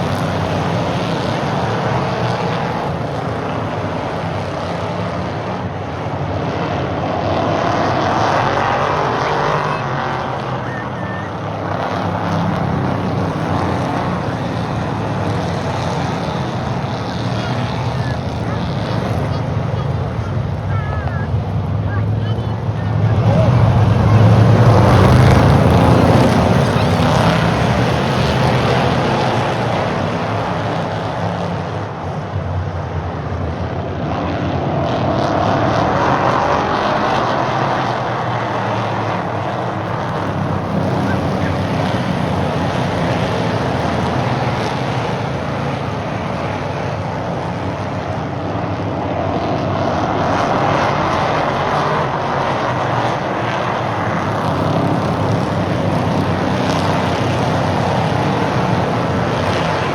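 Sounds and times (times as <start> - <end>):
stock car engines racing: 0.0 - 59.9.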